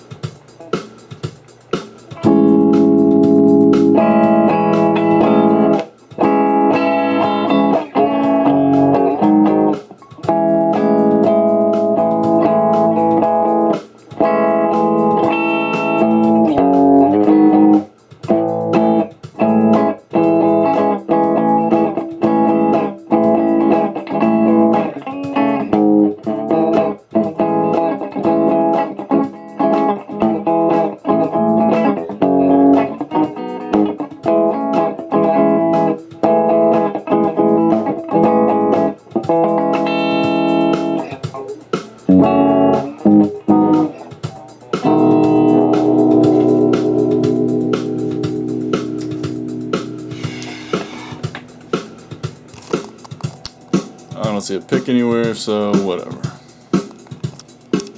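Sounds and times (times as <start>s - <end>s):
electric guitar chords strummed: 0.0s - 57.9s.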